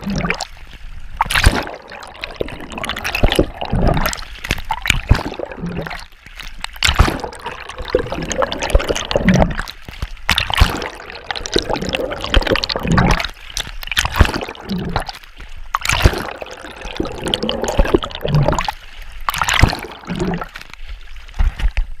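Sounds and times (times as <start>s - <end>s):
muffled underwater gurgling: 0.0s - 0.6s, 1.2s - 21.6s
swimming strokes splashing water: 0.0s - 22.0s.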